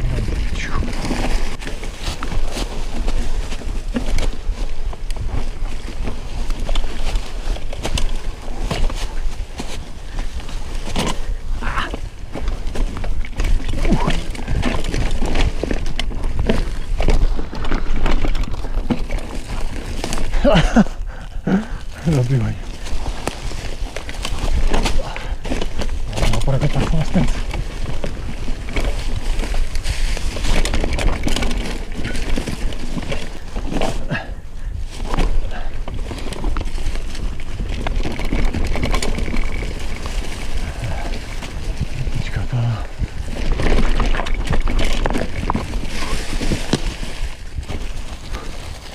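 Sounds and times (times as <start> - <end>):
mountain bike rattling on trail: 0.0 - 48.9
tyres crunching on stones: 0.0 - 48.9.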